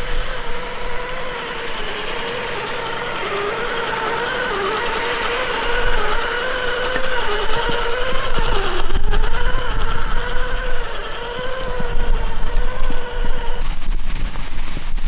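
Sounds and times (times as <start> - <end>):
rc car motor whining: 0.0 - 14.6.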